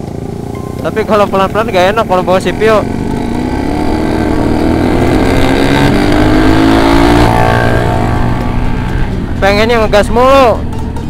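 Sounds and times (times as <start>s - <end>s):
motorcycle engine accelerating: 0.0s - 11.0s
tyres on wet road: 0.0s - 11.0s.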